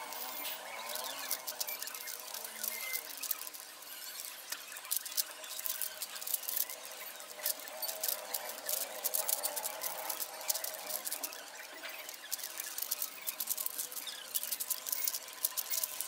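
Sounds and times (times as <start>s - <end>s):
plastic puzzle cube clicking: 0.0s - 16.0s.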